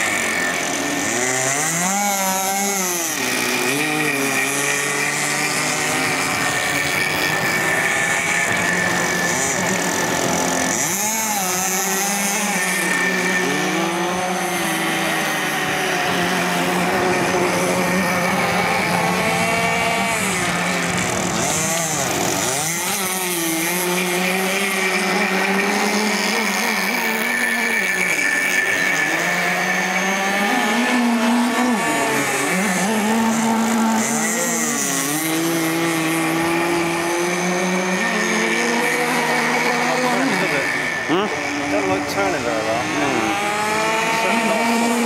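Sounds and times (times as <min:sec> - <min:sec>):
model boat engine at high revs: 0:00.0 - 0:45.0.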